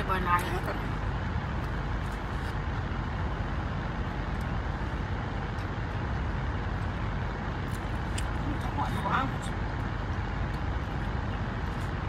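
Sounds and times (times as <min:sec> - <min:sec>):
car interior rumble and hiss: 0:00.0 - 0:12.0.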